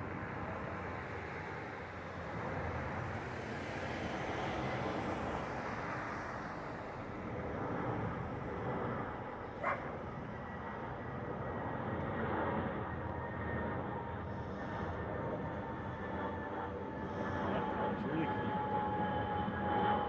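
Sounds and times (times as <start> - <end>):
aircraft rumble and hiss: 0.0 - 20.0.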